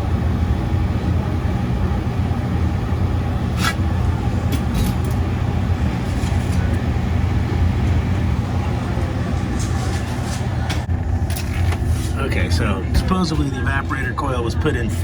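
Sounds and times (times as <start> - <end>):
refrigeration unit humming: 0.0 - 15.0.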